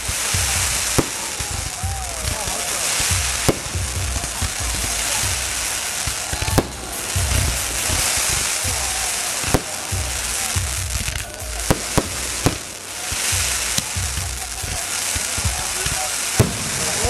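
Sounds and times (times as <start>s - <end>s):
low rumbling booms: 0.0s - 12.7s, 15.4s - 17.0s
firework crackling hiss: 0.0s - 17.0s
firework shells bursting: 0.0s - 17.0s.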